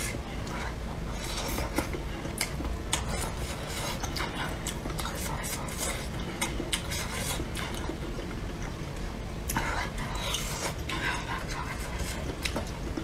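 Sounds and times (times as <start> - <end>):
chewing with crunches: 0.0 - 13.0.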